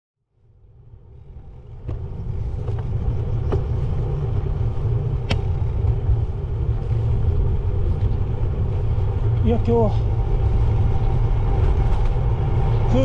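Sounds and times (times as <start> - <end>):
wind and road noise: 0.2 - 13.0.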